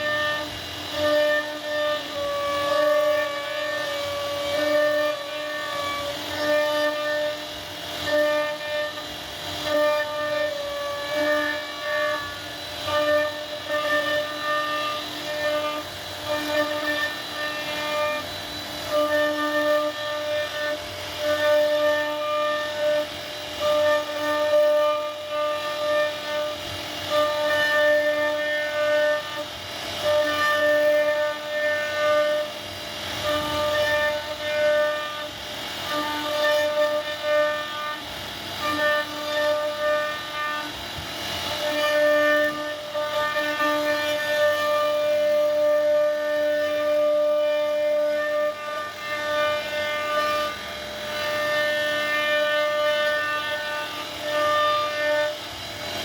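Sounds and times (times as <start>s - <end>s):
router spindle carving wood: 0.0s - 56.0s.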